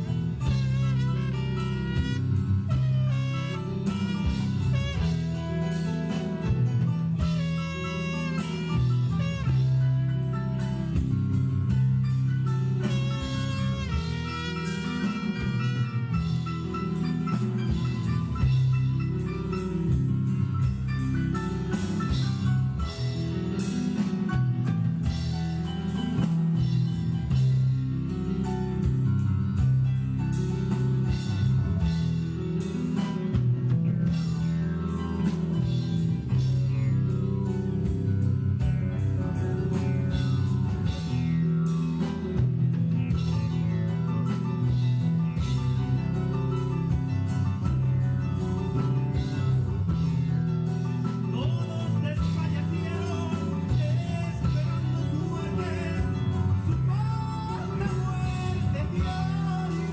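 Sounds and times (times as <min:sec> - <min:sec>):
bass guitar: 0:00.0 - 0:59.9
drum kit: 0:00.0 - 0:59.9
lead guitar melody: 0:00.0 - 0:59.9
live rock band playing: 0:00.0 - 0:59.9.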